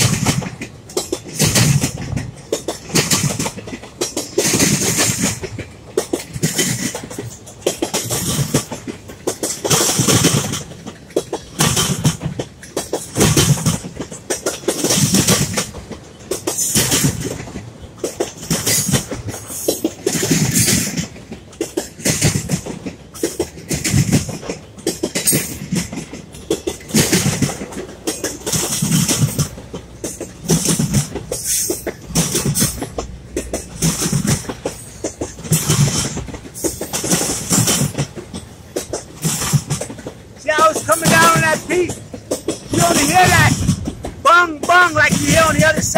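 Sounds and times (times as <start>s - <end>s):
train rumble: 0.0s - 45.9s
train wheels clanking over rail joints: 0.0s - 45.9s.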